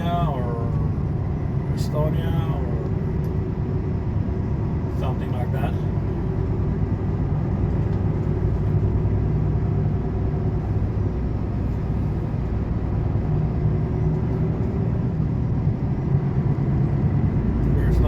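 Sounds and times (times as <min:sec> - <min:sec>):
road and tyre rumble: 0:00.0 - 0:18.0
truck engine drone: 0:00.0 - 0:18.0.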